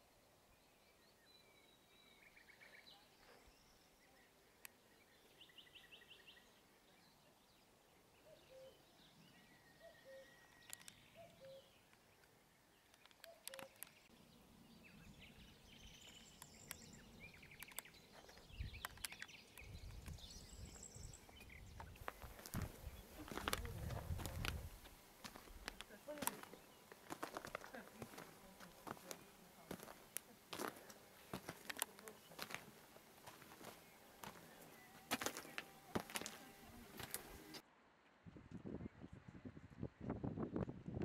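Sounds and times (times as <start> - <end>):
birds chirping and singing: 0.0 - 37.6.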